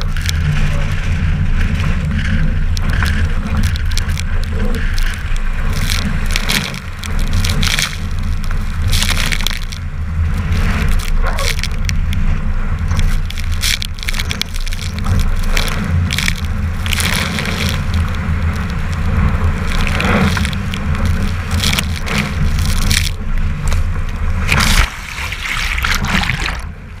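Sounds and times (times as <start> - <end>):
bow wave rushing past hull: 0.0 - 27.0
wind buffeting microphone: 0.0 - 27.0.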